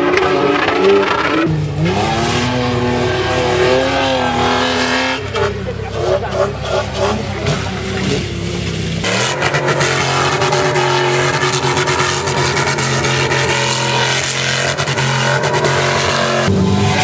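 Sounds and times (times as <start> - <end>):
suv engine at high revs: 0.0 - 17.0.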